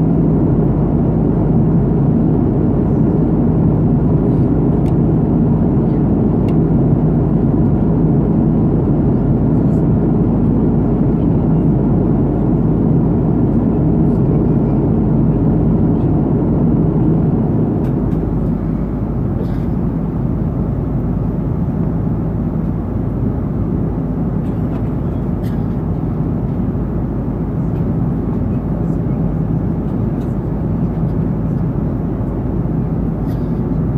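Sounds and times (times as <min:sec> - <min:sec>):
airplane cabin engine drone: 0:00.0 - 0:33.9.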